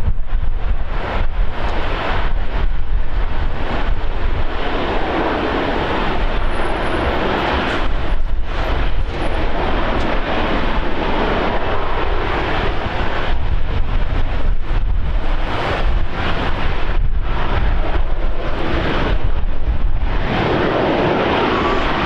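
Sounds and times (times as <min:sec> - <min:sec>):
airliner engine rush: 0:00.0 - 0:22.0
wind buffeting microphone: 0:00.0 - 0:22.0.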